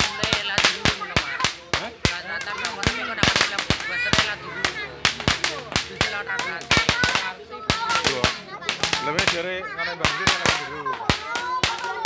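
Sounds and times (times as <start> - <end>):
firecrackers banging: 0.0 - 12.0
voices calling: 0.0 - 12.0.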